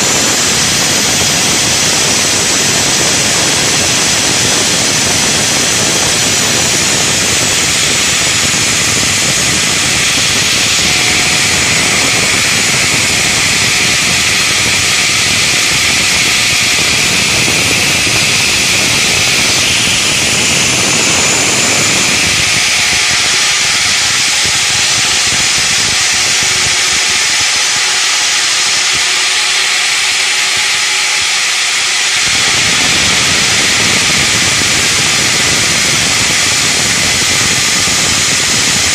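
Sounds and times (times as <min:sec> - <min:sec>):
stone cutting saw hissing: 0:00.0 - 0:38.9.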